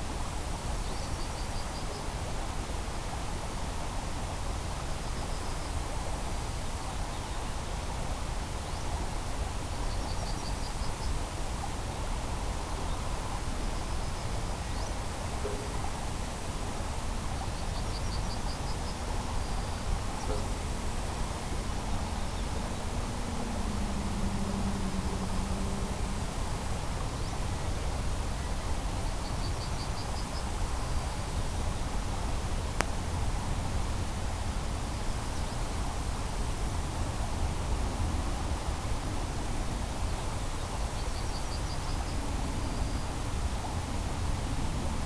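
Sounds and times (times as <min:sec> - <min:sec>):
low steady hum: 0:00.0 - 0:45.0
steady rushing noise: 0:00.0 - 0:45.0.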